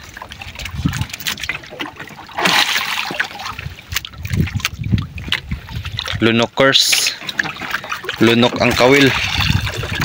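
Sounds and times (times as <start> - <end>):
water splashing against boat: 0.0 - 10.0.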